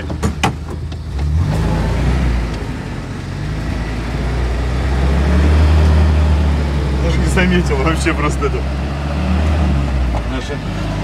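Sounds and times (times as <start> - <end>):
van engine running under load: 0.0 - 11.0.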